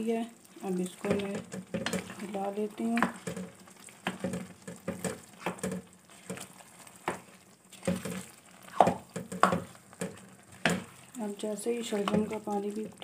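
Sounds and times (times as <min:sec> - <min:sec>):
low sizzle of frying: 0:00.0 - 0:13.0
spatula scraping a pan: 0:01.0 - 0:12.5.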